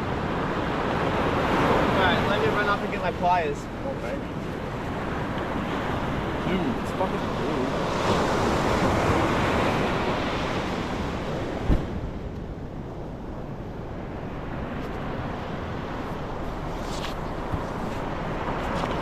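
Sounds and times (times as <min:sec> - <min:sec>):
surf washing on shore: 0:00.0 - 0:19.0
wind buffeting microphone: 0:00.0 - 0:19.0.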